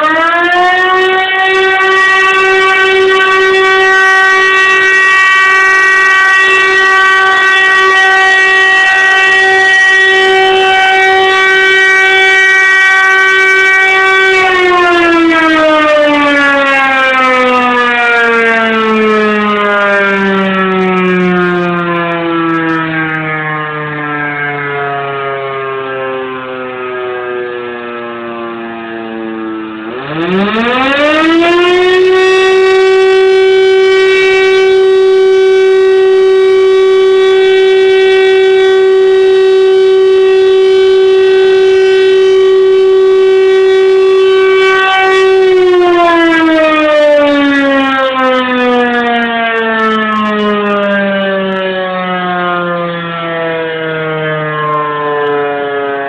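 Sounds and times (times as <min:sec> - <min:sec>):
siren wailing: 0:00.0 - 0:56.0.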